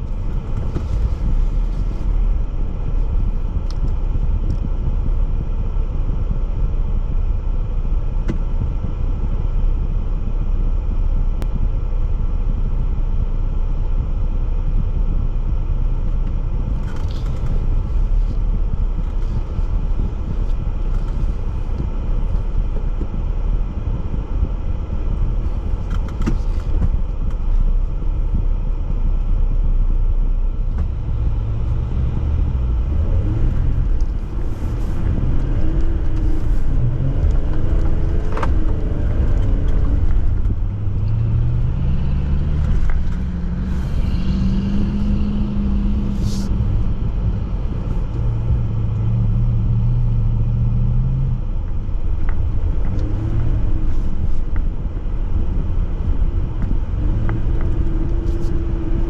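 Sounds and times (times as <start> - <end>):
off-road vehicle engine rumble: 0.0 - 59.0.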